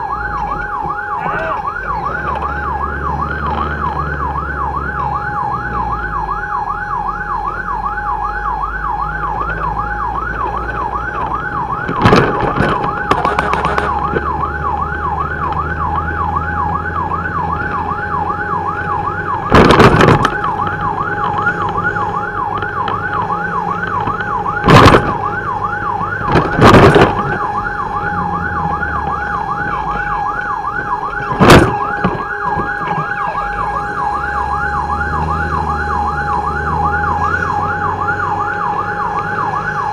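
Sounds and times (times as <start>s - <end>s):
electronic siren yelping: 0.0s - 39.9s.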